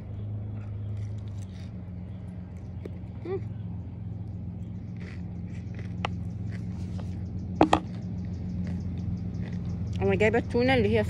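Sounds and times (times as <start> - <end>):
steady low hum: 0.0 - 11.0
person chewing crisp food: 0.5 - 10.0.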